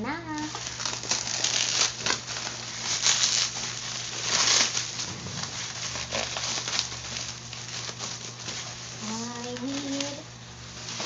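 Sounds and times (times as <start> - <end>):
packaging wrap crinkling: 0.1 - 11.0.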